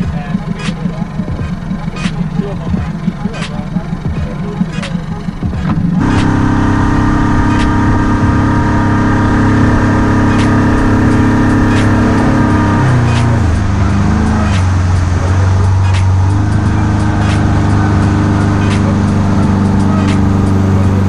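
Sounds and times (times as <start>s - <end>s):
engine running under load: 0.0s - 21.0s.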